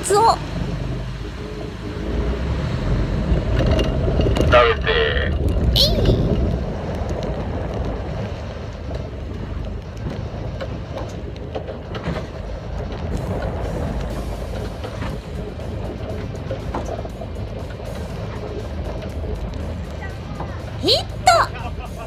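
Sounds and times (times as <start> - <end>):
boat engine rumbling: 0.0 - 22.0
wake water rushing: 0.0 - 22.0.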